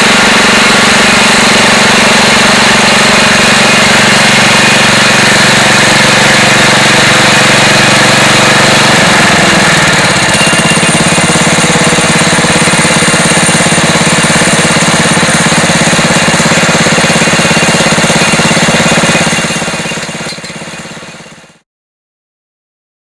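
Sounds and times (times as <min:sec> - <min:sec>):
drill rig engine running: 0:00.0 - 0:21.6.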